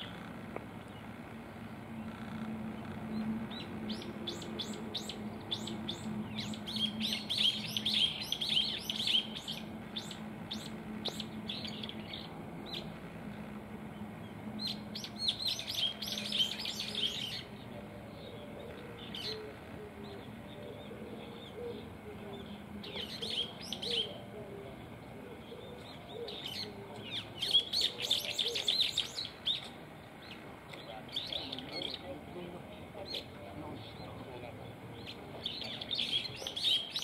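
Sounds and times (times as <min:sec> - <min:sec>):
birds chirping: 0:00.0 - 0:37.0
faint low hum: 0:00.0 - 0:37.0.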